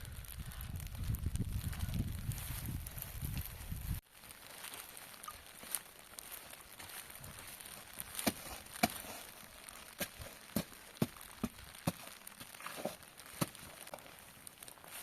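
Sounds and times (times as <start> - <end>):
crinkling: 0.0 - 15.0.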